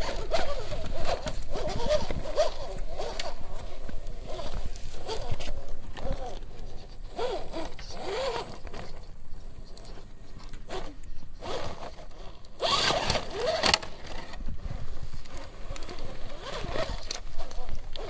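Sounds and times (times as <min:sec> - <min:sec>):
rc car motor whining: 0:00.0 - 0:18.0.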